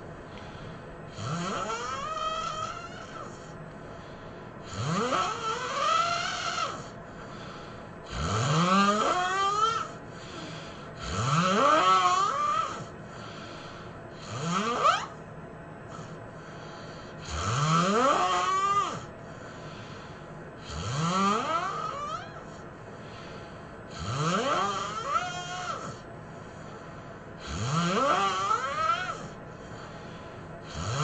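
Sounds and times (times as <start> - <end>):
person snoring heavily: 1.1 - 15.2, 15.9 - 20.0, 20.6 - 22.5, 23.9 - 26.1, 27.4 - 31.0.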